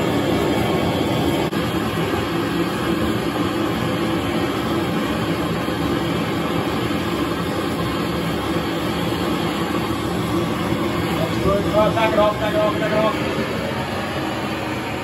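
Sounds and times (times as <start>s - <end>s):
gas torch flame rushing: 0.0s - 15.0s.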